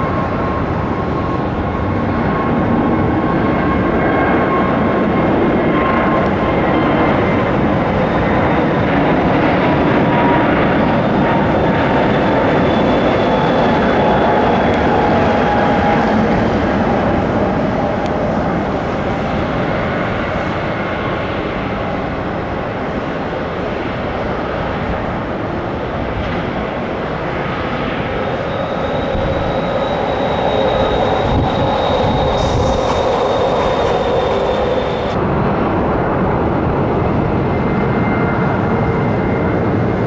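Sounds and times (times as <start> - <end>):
jet engines roaring with whine: 0.0 - 40.0.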